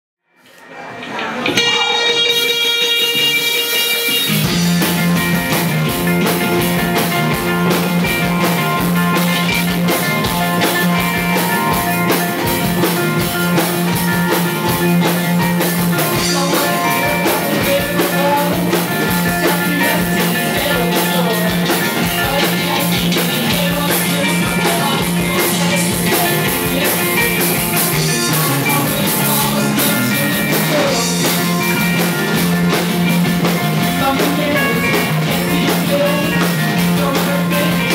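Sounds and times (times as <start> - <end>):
live rock band playing: 0.6 - 37.9.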